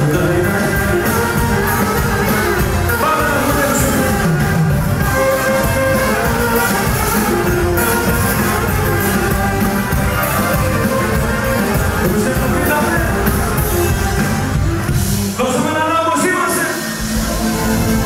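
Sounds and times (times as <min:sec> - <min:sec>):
loud live music with singing: 0:00.0 - 0:18.0.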